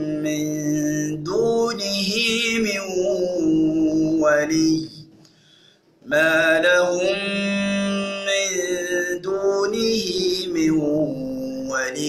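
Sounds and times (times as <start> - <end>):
man chanting recitation: 0.0 - 5.1, 6.0 - 12.0.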